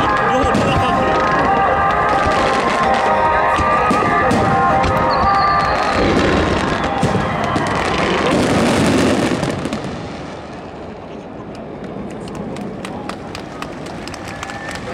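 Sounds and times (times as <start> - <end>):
fireworks booming and crackling: 0.0 - 14.9.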